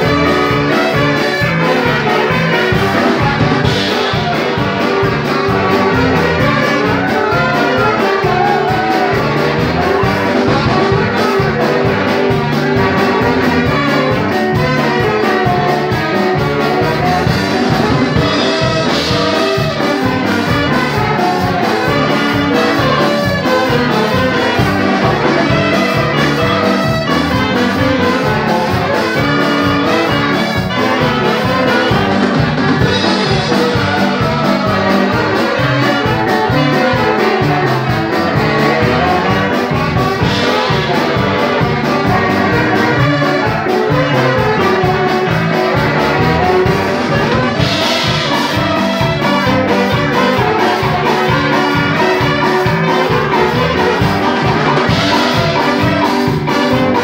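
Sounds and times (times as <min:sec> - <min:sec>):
brass band dance tune: 0:00.0 - 0:57.0.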